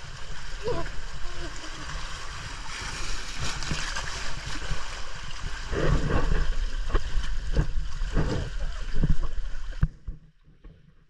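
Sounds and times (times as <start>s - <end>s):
low microphone rumble: 0.0s - 10.2s
water rushing and gurgling: 0.0s - 10.2s.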